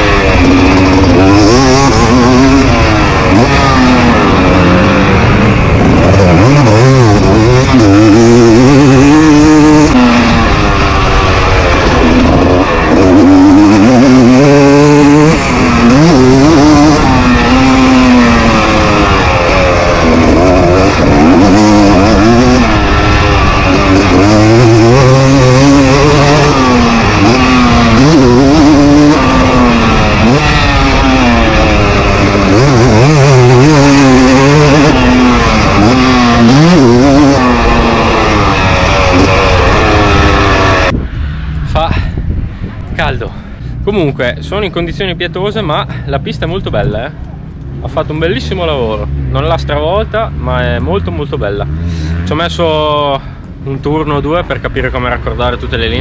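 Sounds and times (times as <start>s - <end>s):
two-stroke motocross engine revving: 0.0s - 41.2s, 45.9s - 56.0s.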